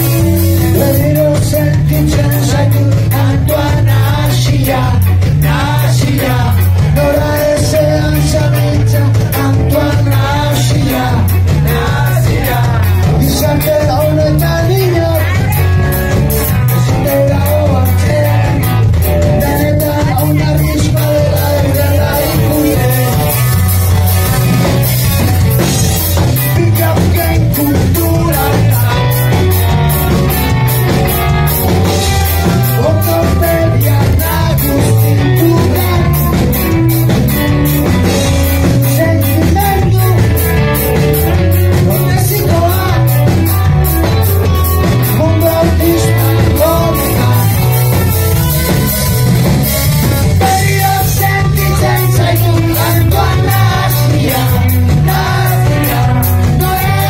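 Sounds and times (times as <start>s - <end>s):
man singing into a microphone: 0.0s - 24.8s, 25.6s - 30.3s, 31.8s - 37.2s, 38.0s - 49.1s, 50.3s - 57.0s
drum beat: 0.0s - 57.0s
rock band playing live: 0.0s - 57.0s.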